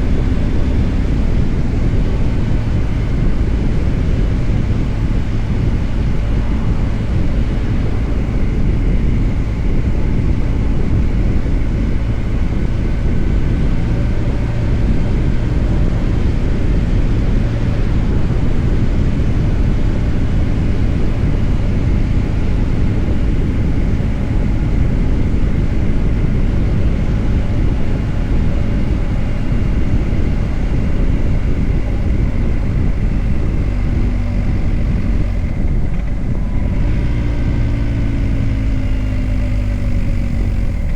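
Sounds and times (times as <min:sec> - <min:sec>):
motorcycle engine drone: 0:00.0 - 0:40.9
wind and road noise: 0:00.0 - 0:40.9.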